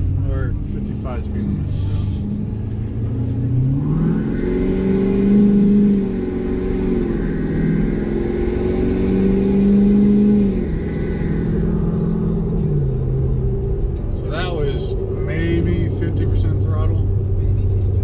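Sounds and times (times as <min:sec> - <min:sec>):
diesel truck engine accelerating: 0:00.0 - 0:18.0.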